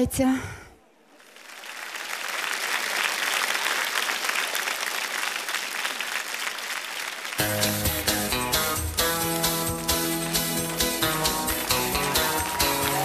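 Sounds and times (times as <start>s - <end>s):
studio audience applauding: 1.2s - 13.0s.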